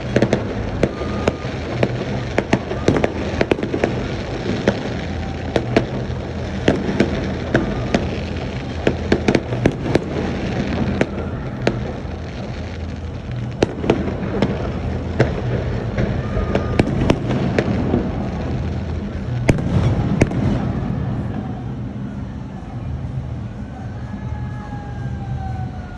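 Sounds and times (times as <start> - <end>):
fireworks bangs: 0.0 - 23.6
rumble and crackle of bursts: 0.0 - 25.9.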